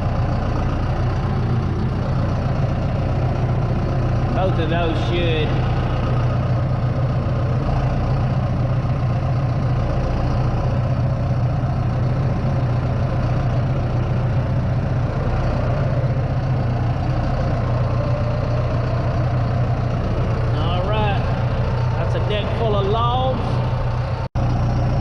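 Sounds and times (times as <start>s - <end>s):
machine engine humming: 0.0s - 25.0s.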